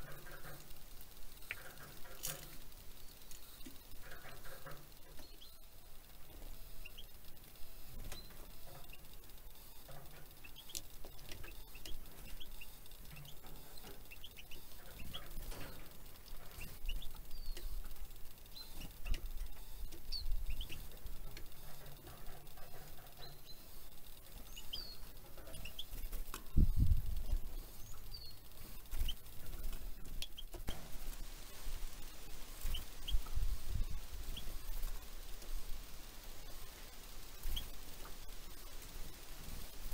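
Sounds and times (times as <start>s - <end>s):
birds pecking: 0.0s - 39.9s
songbirds chirping: 0.0s - 39.9s
wing flutters: 0.0s - 39.9s.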